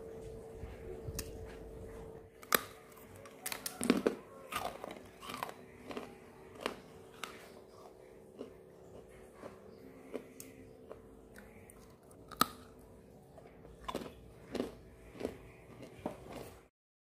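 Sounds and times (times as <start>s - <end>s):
cookies cracking and crunching: 2.3s - 16.7s.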